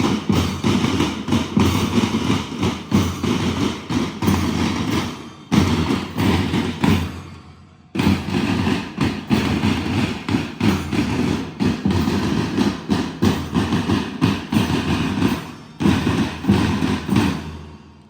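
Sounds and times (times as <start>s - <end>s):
marching band drums: 0.0s - 18.0s.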